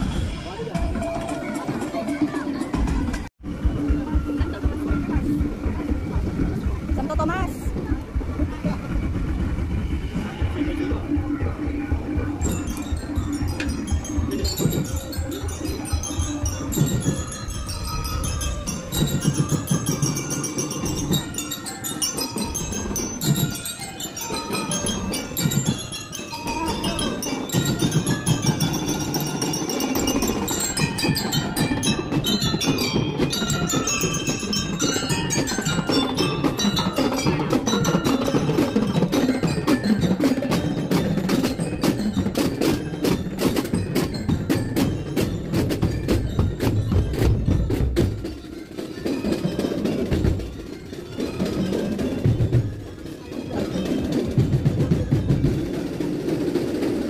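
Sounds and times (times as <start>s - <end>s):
fast dense drumming: 2.8s - 57.0s
glockenspiel melody: 10.8s - 57.0s.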